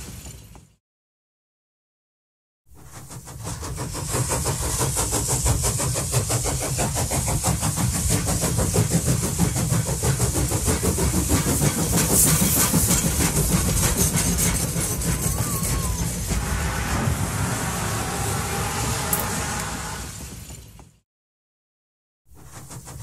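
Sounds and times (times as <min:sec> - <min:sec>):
train running: 0:02.7 - 0:21.0, 0:22.3 - 0:23.0.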